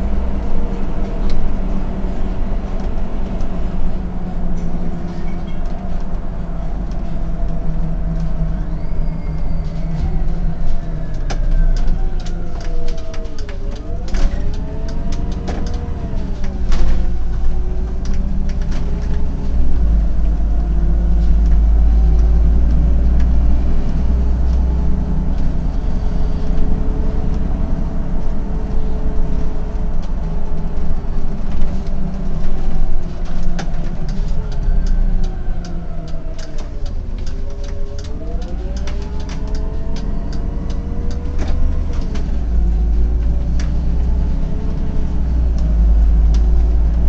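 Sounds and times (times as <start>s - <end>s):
bus engine drone: 0.0s - 47.0s.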